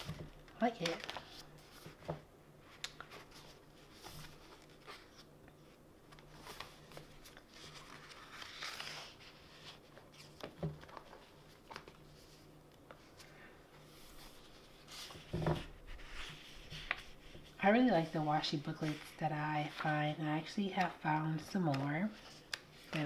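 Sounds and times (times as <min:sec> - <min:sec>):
paper rustling and page turning: 0:00.0 - 0:23.0.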